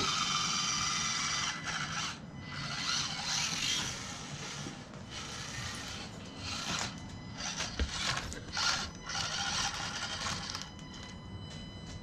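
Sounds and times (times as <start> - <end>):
electric motor whirring: 0.0 - 10.9.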